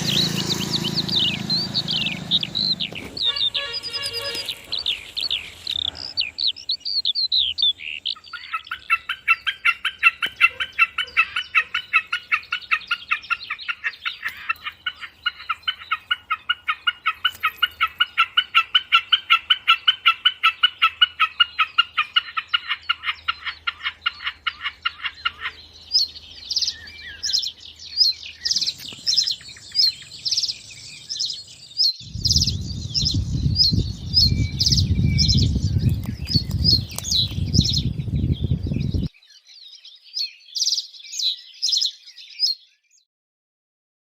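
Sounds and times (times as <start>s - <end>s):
bird call notes: 0.0s - 37.9s
birds chirping and singing: 0.0s - 43.0s.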